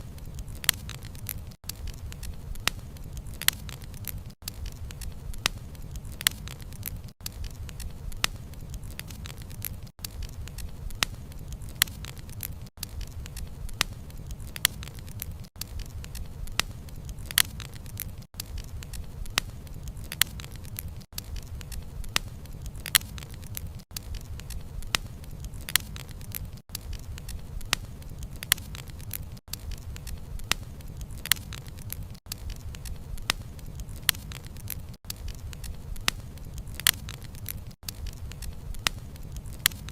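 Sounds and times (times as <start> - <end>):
bonfire crackling and popping: 0.0 - 39.9
low fire rumble: 0.0 - 39.9.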